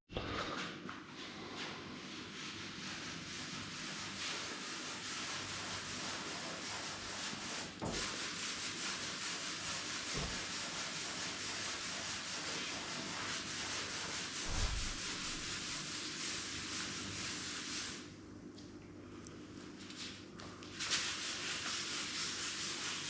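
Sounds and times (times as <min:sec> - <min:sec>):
sanding wood: 0:01.9 - 0:18.1, 0:20.7 - 0:23.0.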